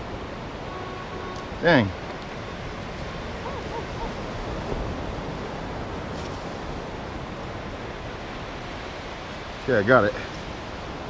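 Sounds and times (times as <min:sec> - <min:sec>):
ocean surf on a beach: 0:00.0 - 0:11.0
wind: 0:00.0 - 0:11.0.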